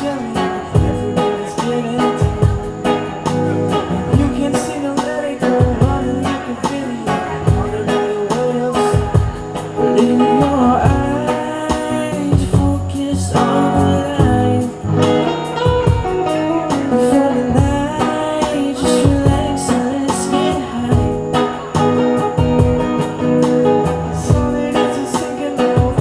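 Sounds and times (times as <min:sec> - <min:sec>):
guitar: 0:00.0 - 0:26.0
steady drum beat: 0:00.0 - 0:26.0.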